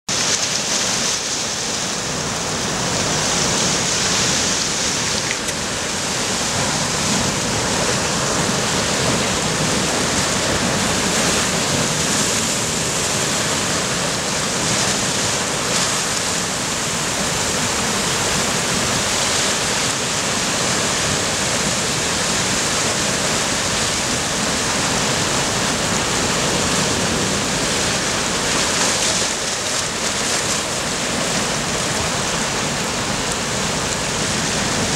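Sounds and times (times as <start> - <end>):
surf washing over rocks: 0.1 - 34.9.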